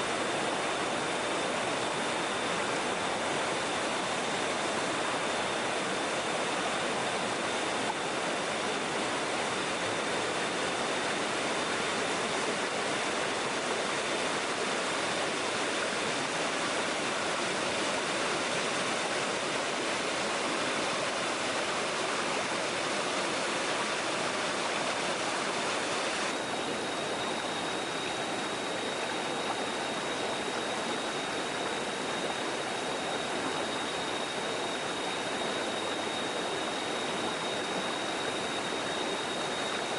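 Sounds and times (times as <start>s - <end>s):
stream rushing: 0.0s - 39.9s
thin high whine: 0.0s - 39.9s.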